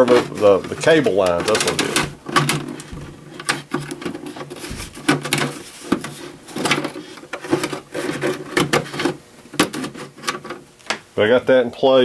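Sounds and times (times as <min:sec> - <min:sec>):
plastic crackling and clicking: 0:00.0 - 0:11.0.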